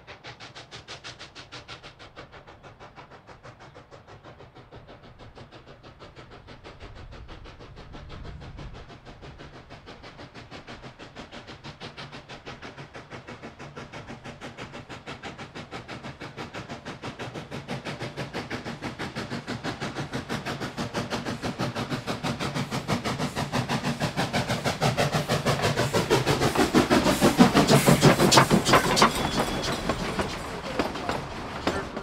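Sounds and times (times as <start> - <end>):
steam locomotive chuffing: 0.0 - 32.0.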